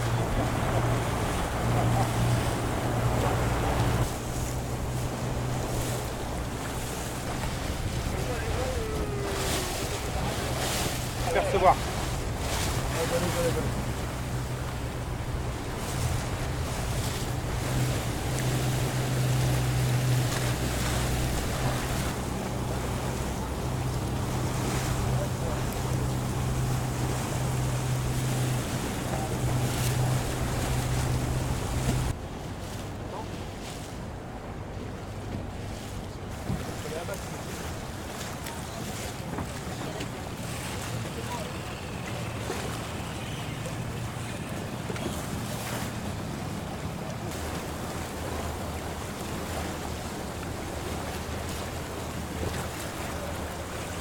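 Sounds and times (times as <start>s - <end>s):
boat engine humming: 0.0s - 54.0s
rushing water: 0.0s - 54.0s
wind: 0.0s - 54.0s.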